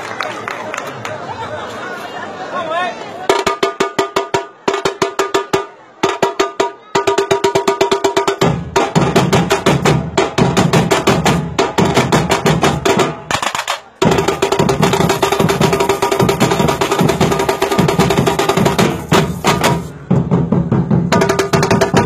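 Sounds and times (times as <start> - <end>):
samba percussion ensemble drumming: 3.3 - 22.0.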